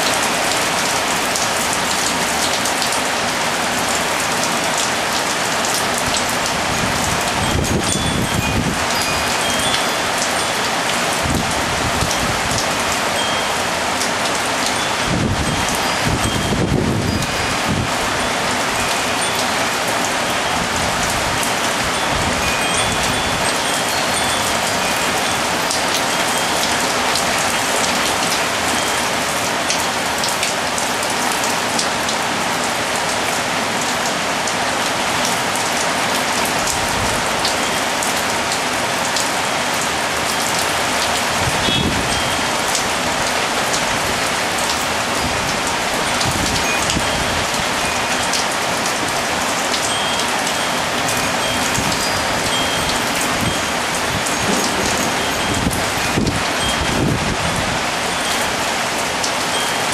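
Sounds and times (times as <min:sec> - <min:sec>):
heavy rain pattering: 0:00.0 - 0:59.9
faint wind chime tones: 0:05.7 - 0:30.7, 0:36.3 - 0:59.9.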